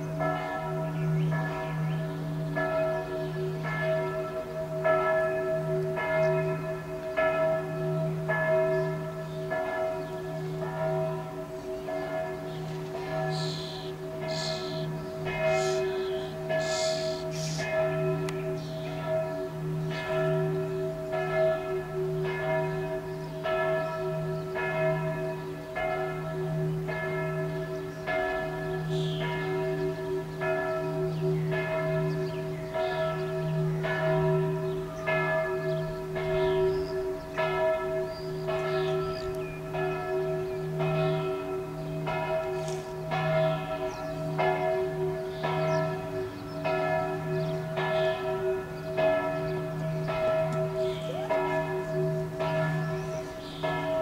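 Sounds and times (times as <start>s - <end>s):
church bell ringing: 0.0s - 54.0s.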